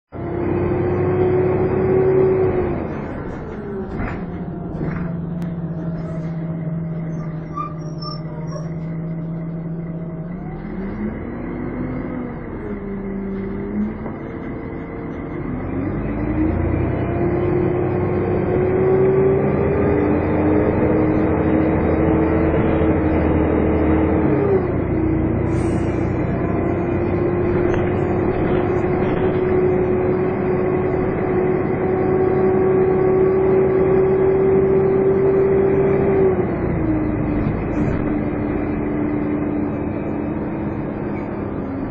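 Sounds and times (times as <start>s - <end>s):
bus engine whine: 0.1s - 41.9s.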